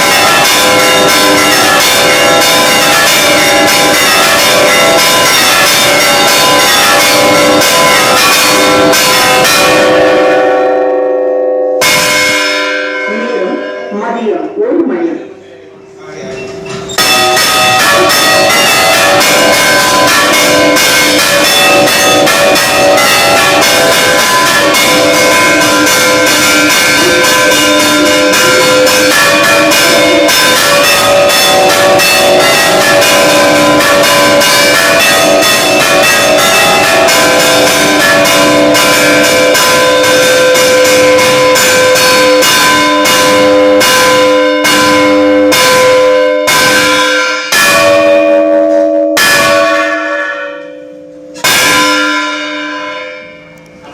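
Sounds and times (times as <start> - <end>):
church bell ringing rapidly: 0.0 - 15.1, 15.7 - 53.9.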